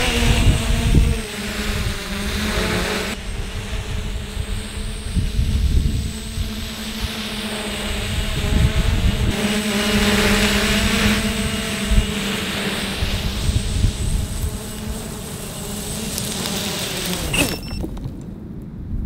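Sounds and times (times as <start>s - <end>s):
drone motors buzzing: 0.0s - 18.0s.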